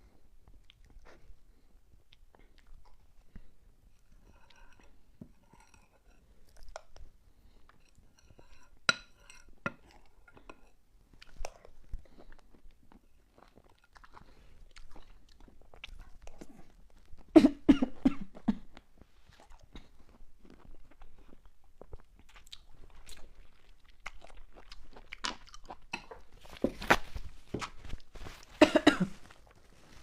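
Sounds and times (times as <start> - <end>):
soft chewing and smacking: 0.0 - 17.4, 18.2 - 30.0.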